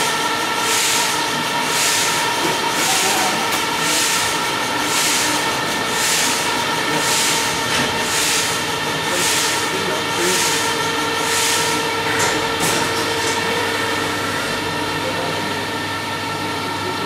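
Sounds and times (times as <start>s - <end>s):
machine whine: 0.0s - 17.0s.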